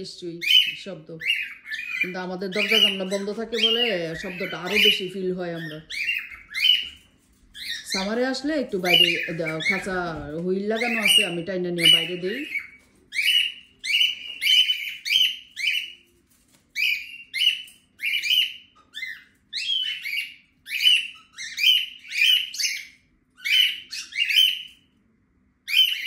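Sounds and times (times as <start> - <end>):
cockatiels screeching: 0.4 - 24.9, 25.6 - 26.0.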